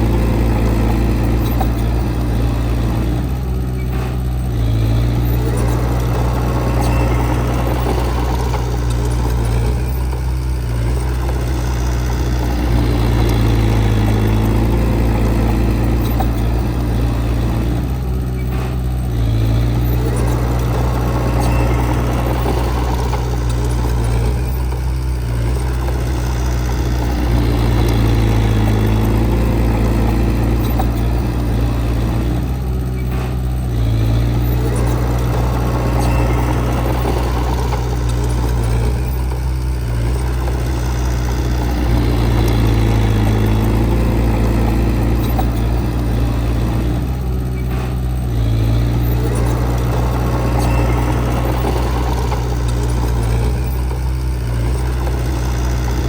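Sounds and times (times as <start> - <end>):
heavy diesel engine working: 0.0 - 56.0.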